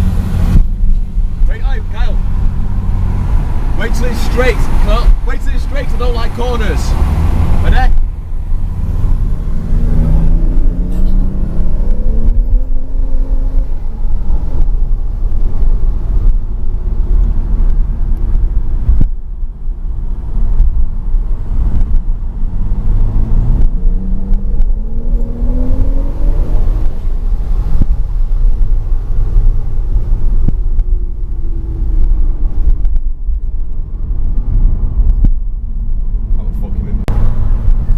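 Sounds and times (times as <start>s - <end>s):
sports car engine accelerating: 0.0s - 37.9s.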